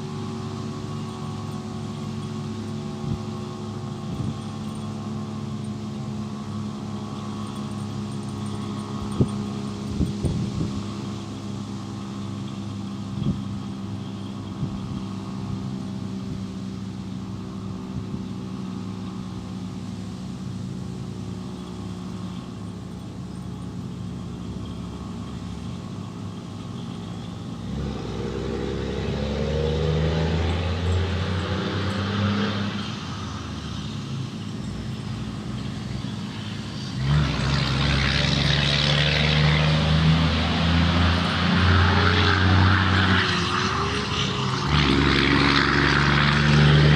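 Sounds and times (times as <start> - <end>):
vehicle engine running: 0.0 - 46.9
vehicles driving past: 0.0 - 46.9.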